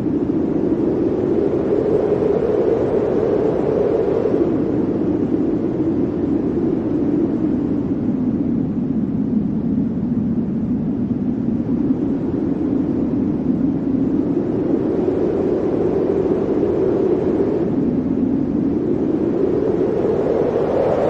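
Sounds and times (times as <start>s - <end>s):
blizzard wind blowing: 0.0s - 21.0s.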